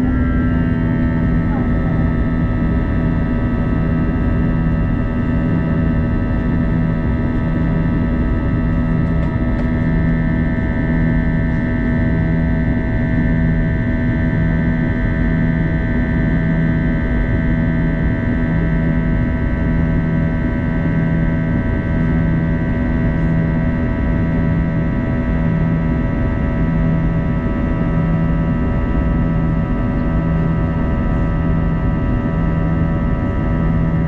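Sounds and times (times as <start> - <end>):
jet engine drone in cabin: 0.0 - 34.0
low pulsing hum: 0.0 - 34.0.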